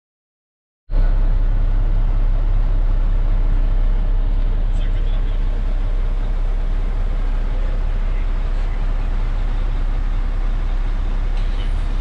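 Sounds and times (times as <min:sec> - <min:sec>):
diesel truck engine rumbling: 0:00.9 - 0:12.0.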